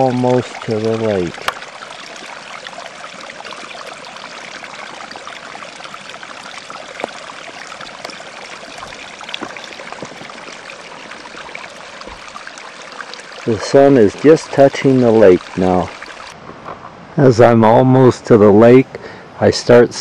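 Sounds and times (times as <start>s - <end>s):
stream running: 0.0s - 20.0s.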